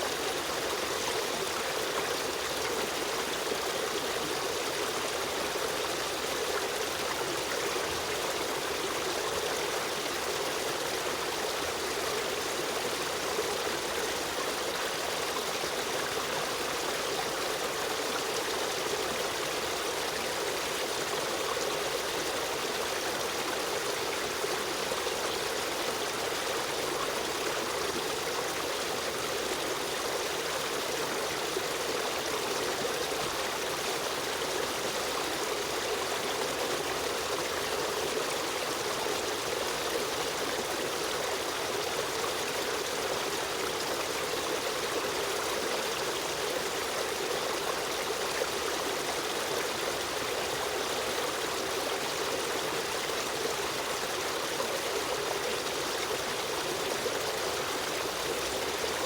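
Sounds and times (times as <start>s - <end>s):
stream water running over rocks: 0.0s - 59.0s.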